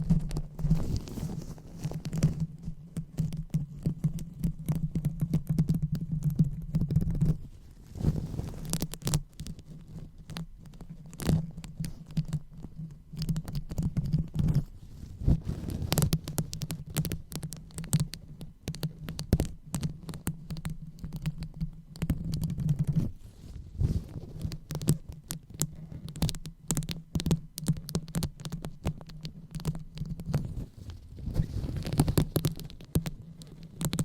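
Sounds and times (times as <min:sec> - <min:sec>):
fingers scratching on microphone: 0:00.0 - 0:34.0.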